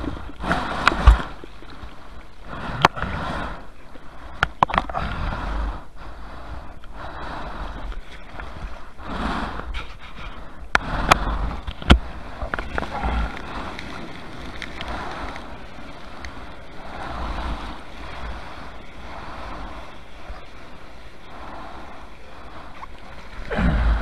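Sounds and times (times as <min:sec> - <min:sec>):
rush of water into foam: 0:00.0 - 0:03.8, 0:07.3 - 0:24.0
surf whitewash rushing and fizzing: 0:00.0 - 0:05.7, 0:07.2 - 0:24.0.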